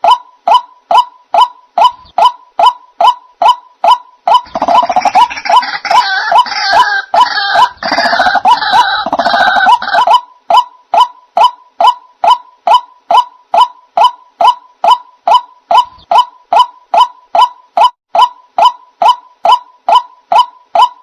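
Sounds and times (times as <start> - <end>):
bird repeating short sharp notes: 0.0 - 6.9, 7.6 - 21.0
busy run of bird calls: 0.0 - 21.0.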